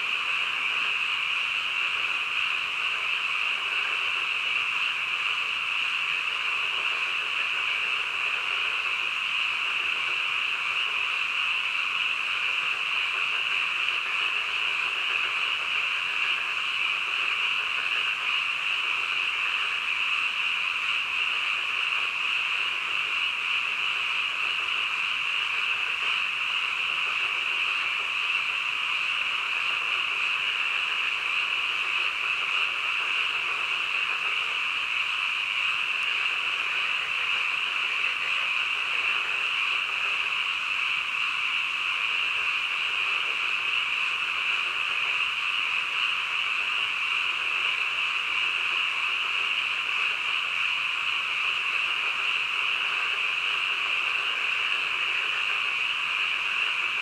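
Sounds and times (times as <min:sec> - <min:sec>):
chorus of frogs calling: 0:00.0 - 0:57.0.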